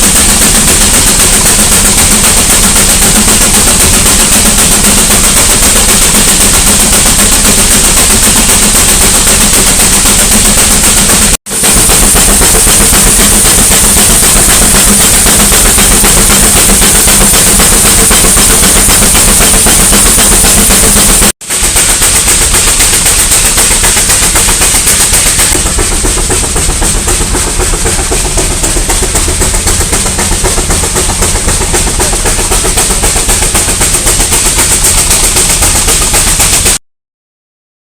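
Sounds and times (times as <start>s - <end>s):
steam engine exhaust beats: 0.0s - 36.8s
steam hissing: 0.0s - 36.8s.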